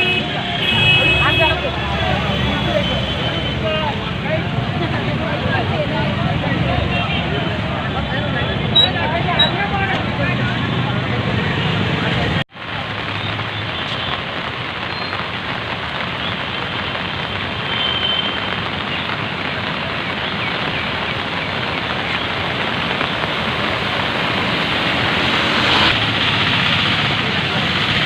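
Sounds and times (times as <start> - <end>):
rushing water from downpour: 0.0 - 28.0.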